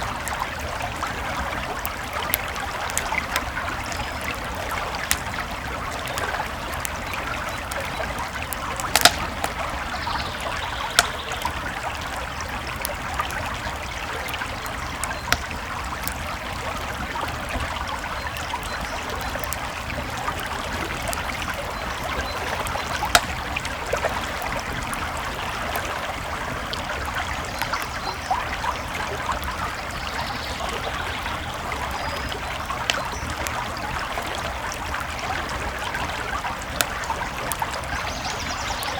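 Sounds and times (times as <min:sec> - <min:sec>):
campfire crackling: 0:00.0 - 0:38.9
creek water babbling: 0:00.0 - 0:38.9
fire popping: 0:00.0 - 0:38.9.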